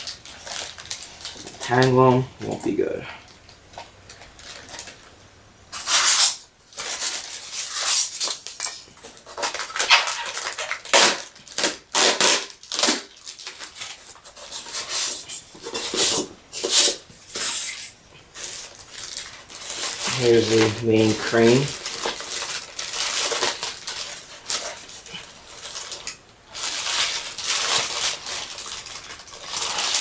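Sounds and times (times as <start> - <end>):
packaging rustling: 0.0 - 2.0, 3.3 - 5.2, 5.8 - 30.0.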